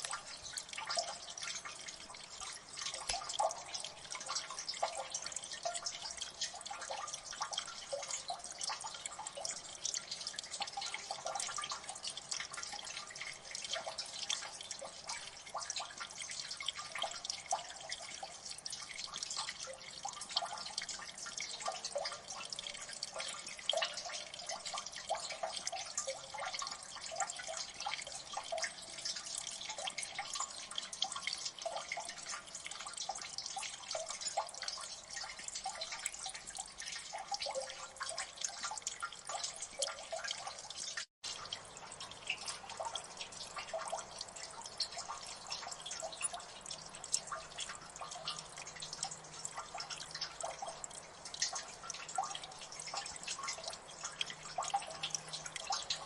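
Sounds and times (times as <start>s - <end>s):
water dripping: 0.0s - 56.0s.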